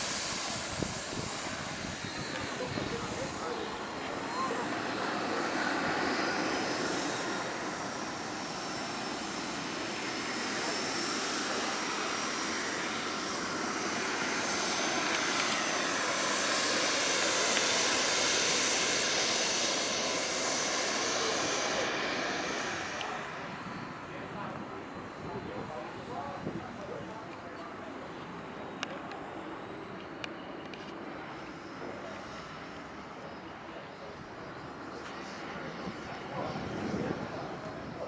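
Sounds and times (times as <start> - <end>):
model jet turbine running: 0.0 - 38.0.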